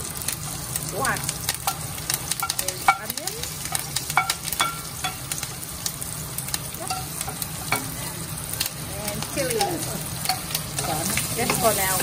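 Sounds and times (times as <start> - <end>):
onion pieces crackling in wok: 0.0 - 12.0.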